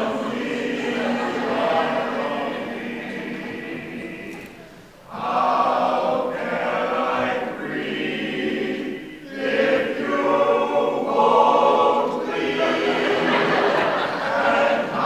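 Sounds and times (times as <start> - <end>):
men's chorus singing: 0.0 - 15.0.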